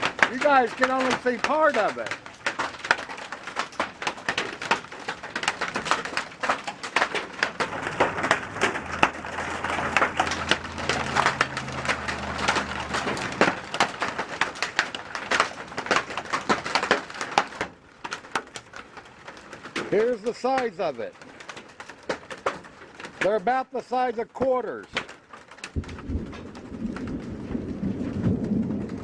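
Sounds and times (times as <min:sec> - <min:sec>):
hail pelting: 0:00.0 - 0:29.0.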